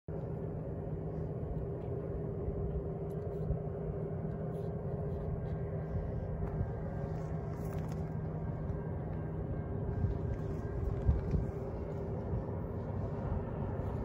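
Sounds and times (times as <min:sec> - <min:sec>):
distant diesel engine drone: 0:00.1 - 0:14.0.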